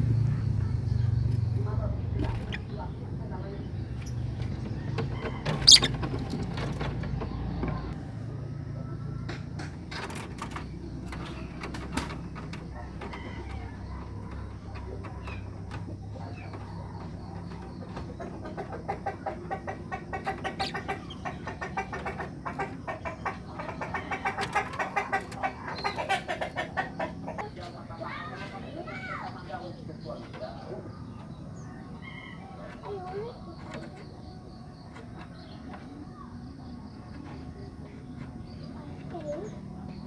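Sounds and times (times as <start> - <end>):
birds calling: 0.0 - 8.0, 10.2 - 40.0.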